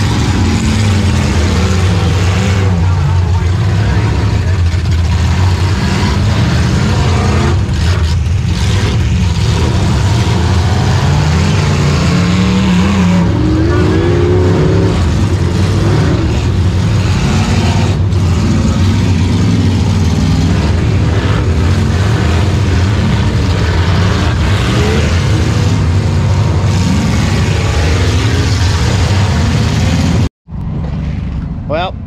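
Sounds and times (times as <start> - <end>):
car engine running loud: 0.0 - 31.8.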